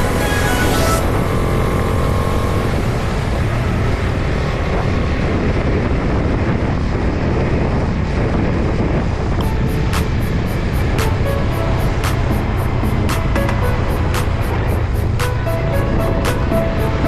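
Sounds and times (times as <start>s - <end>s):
motorcycle wind and road noise: 0.0s - 17.0s.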